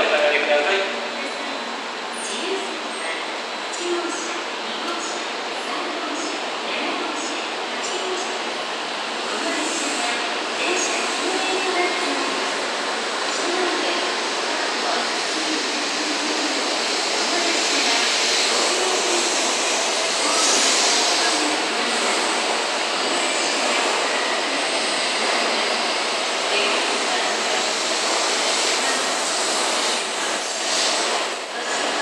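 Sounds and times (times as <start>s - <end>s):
train wheels on rail: 2.0s - 32.0s.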